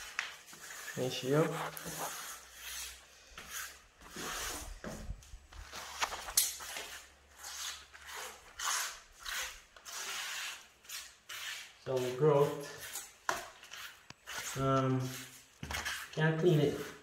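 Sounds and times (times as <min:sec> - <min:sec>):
grout float scraping tiles: 0:00.0 - 0:17.0.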